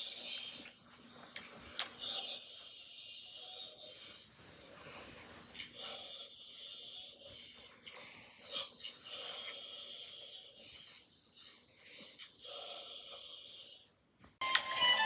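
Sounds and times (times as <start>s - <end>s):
quiet breaths: 0.0s - 14.0s.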